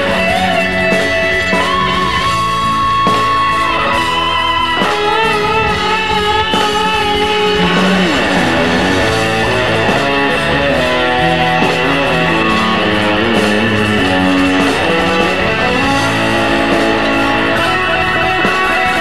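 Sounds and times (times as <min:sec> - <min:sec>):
electric guitar notes: 0:00.0 - 0:19.0
live rock band playing: 0:00.0 - 0:19.0.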